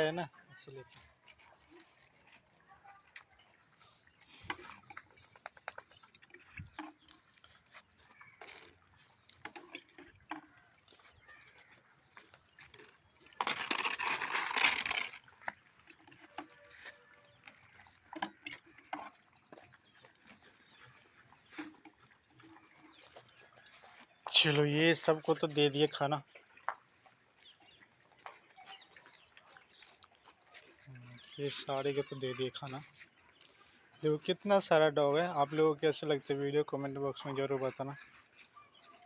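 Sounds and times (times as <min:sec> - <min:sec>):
dogs chewing and licking: 0:00.4 - 0:13.6, 0:14.8 - 0:39.0.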